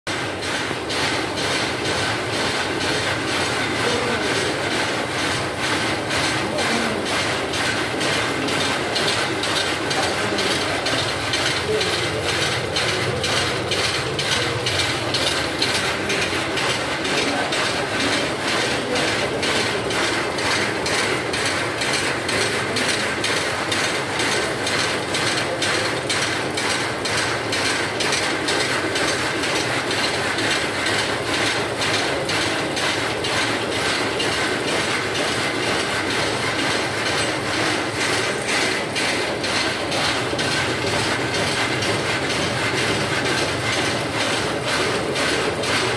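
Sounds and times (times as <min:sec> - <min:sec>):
power looms clattering: 0:00.1 - 0:45.9.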